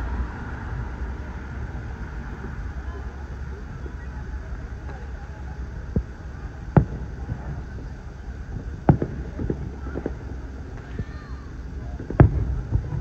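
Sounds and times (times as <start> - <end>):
low rumble: 0.0 - 13.0
firework shells bursting: 1.9 - 13.0.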